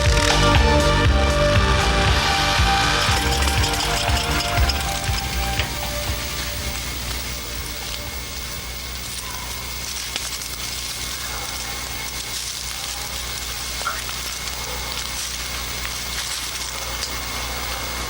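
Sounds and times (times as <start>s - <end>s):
woodchipper running: 0.0s - 18.0s.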